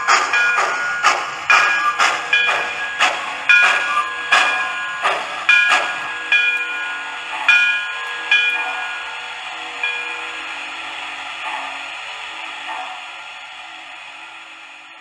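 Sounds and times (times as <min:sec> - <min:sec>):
sharp steam chuffs with ringing: 0:00.0 - 0:15.0.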